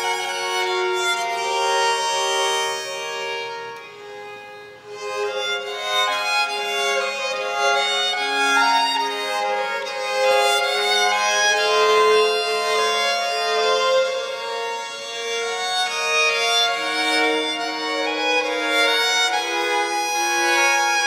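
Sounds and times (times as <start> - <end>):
violins playing long held notes: 0.0 - 21.0.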